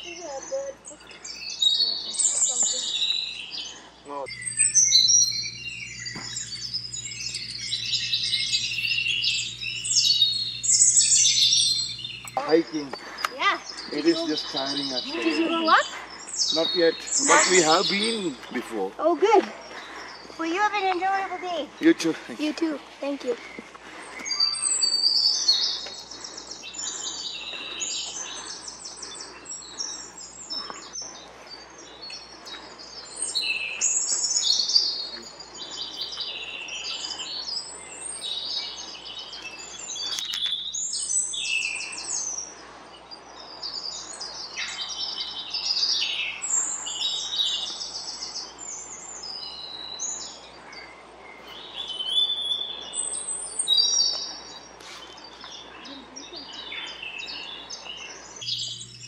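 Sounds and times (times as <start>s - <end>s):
songbirds twittering: 0.0s - 59.0s.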